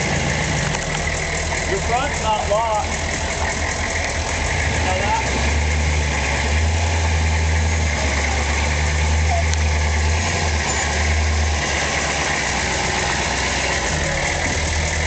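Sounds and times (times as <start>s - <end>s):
truck engine rumbling at low revs: 0.0s - 15.0s.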